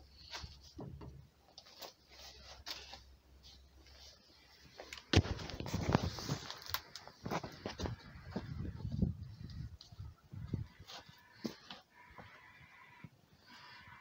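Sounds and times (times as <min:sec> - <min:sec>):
rubbing and rustling on microphone: 0:00.1 - 0:11.8.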